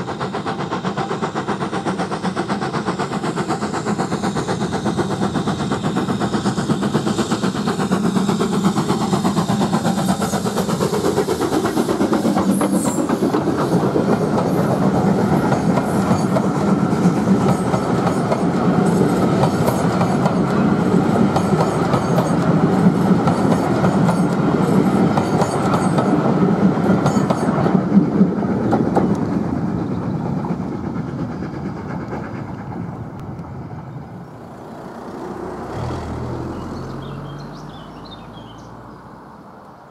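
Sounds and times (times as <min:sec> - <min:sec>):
steam locomotive exhaust beating: 0:00.0 - 0:38.9.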